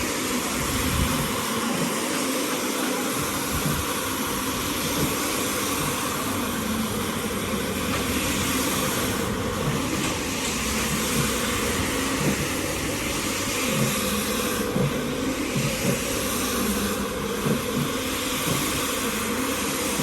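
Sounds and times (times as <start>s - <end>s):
cleaning machine hissing: 0.0s - 20.0s.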